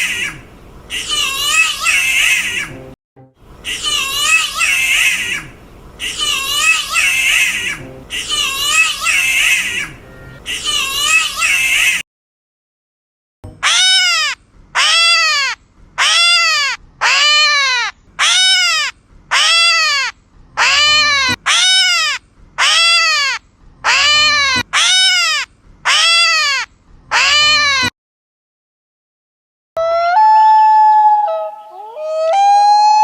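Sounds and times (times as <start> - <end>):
bird wailing calls: 0.0 - 2.8, 3.6 - 12.0, 13.6 - 27.9, 29.8 - 33.0.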